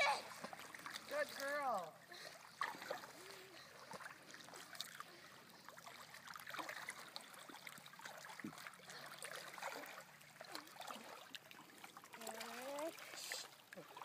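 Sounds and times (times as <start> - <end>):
lake water lapping and trickling: 0.0 - 14.0.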